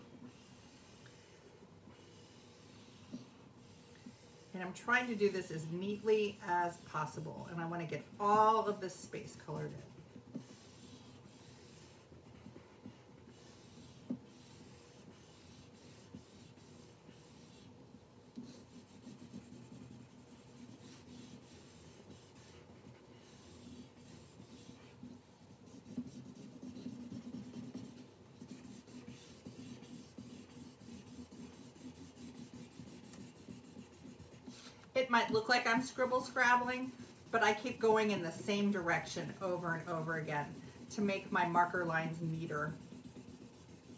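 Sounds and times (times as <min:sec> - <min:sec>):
marker scrubbing across paper: 0:00.2 - 0:43.9.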